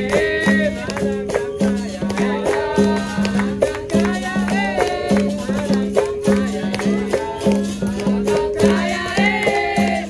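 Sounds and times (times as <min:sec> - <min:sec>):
percussion strikes: 0:00.0 - 0:10.0
voices singing: 0:00.0 - 0:10.0.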